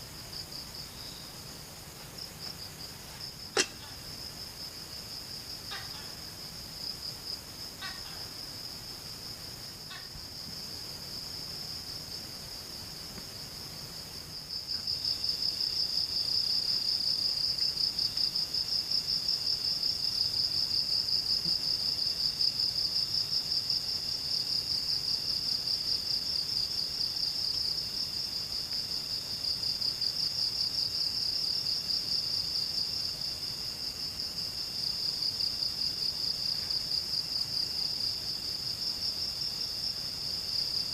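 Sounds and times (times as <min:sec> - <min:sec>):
high-pitched insect chorus: 0:00.0 - 0:40.9
lower insect trill: 0:00.0 - 0:40.9.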